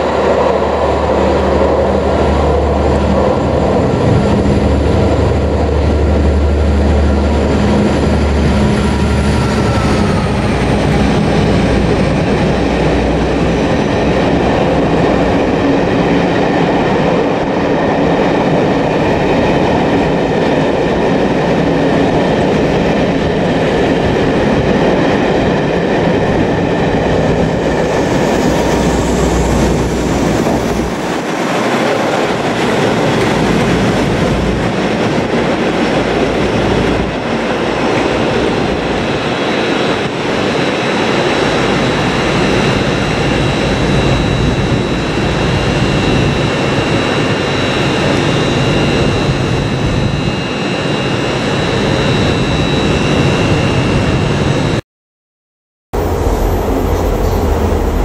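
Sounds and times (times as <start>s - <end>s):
train wheels rumbling on rails: 0.0s - 54.6s, 56.0s - 58.0s
diesel locomotive engine drone: 0.0s - 54.8s, 56.0s - 58.0s.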